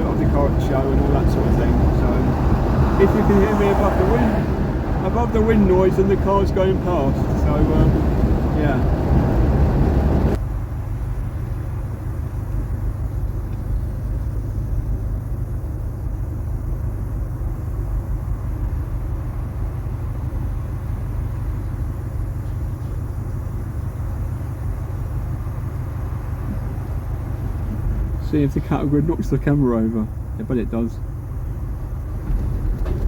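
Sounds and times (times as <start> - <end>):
car running low rumble: 0.0 - 33.0
wind and road noise: 0.0 - 33.0.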